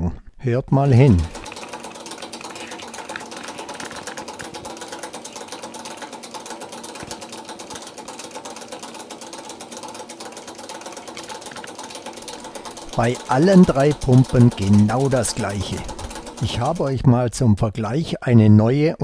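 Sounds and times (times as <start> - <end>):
pump electric hum: 0.7 - 17.0
pump rattling clatter: 0.7 - 17.0.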